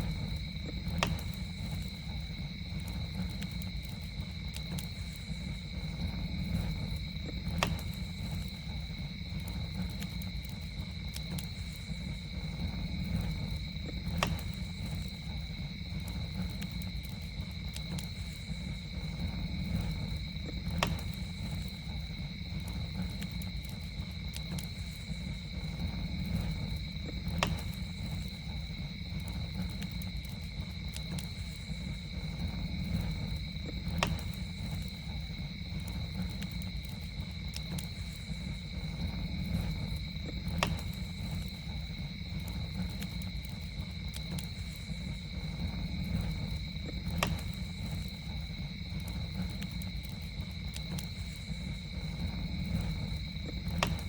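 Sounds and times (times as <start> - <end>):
campfire crackling: 0.0 - 54.0
insects droning: 0.0 - 54.0.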